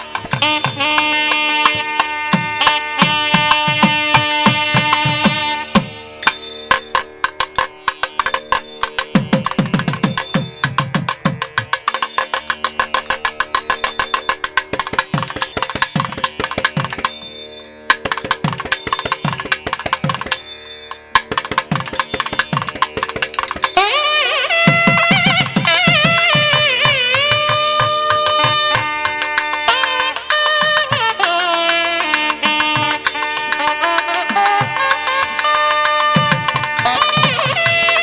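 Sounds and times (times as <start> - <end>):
tabla drumming: 0.0 - 38.0.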